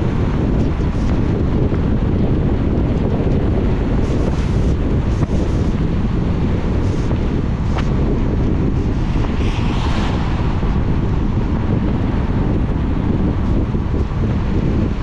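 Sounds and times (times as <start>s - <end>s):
tyre noise on wet road: 0.0s - 15.0s
wind rumbling on microphone: 0.0s - 15.0s.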